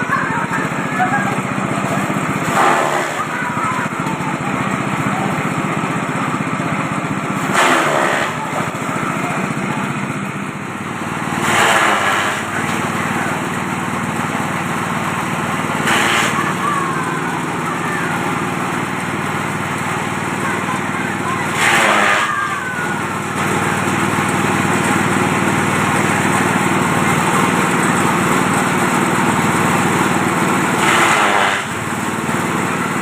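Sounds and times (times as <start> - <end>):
chopper machine engine running: 0.0 - 33.0.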